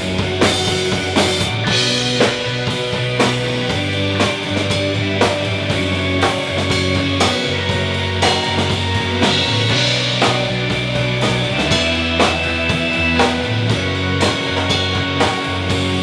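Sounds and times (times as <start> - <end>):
drum kit beat: 0.0 - 16.0
live rock band playing: 0.0 - 16.0.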